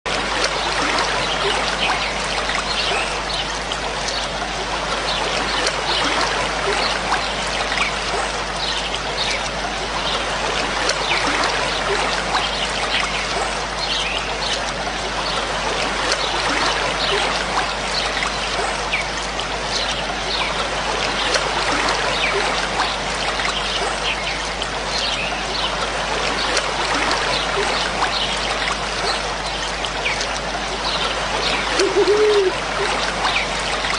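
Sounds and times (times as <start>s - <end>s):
trickling water: 0.1s - 33.9s.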